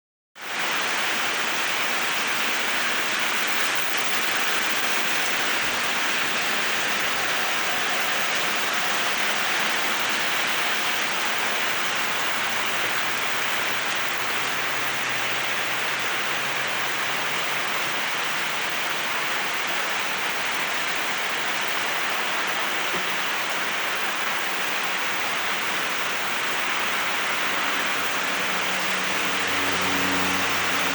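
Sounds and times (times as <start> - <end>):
steady rain falling: 0.4 - 30.9.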